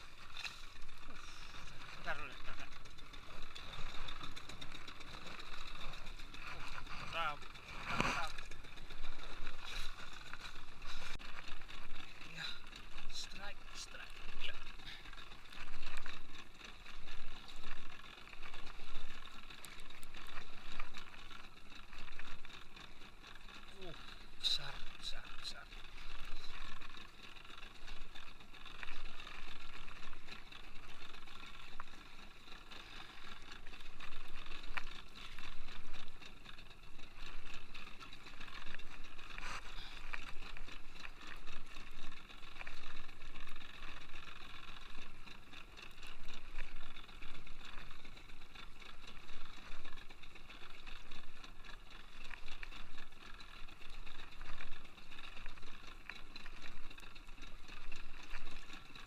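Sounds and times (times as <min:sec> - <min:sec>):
fishing reel winding: 0:00.0 - 0:59.0.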